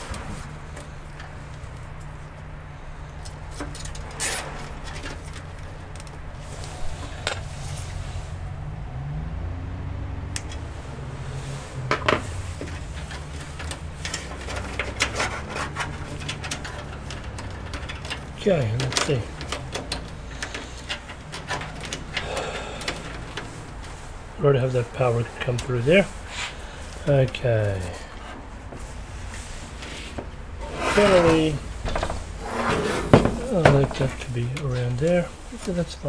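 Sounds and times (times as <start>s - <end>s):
cables rustling: 0.0s - 8.8s, 10.2s - 36.0s.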